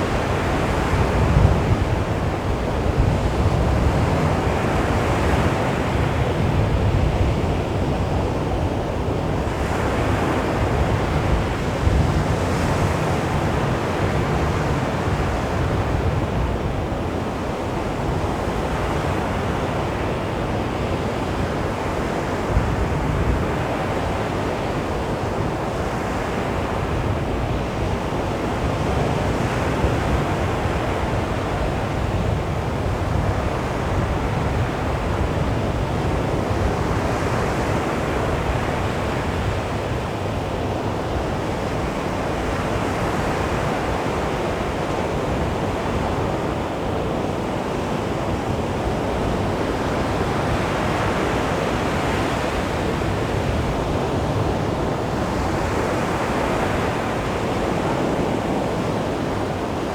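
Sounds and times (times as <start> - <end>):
waves washing onto a beach: 0.0 - 59.9
wind noise: 0.0 - 59.9.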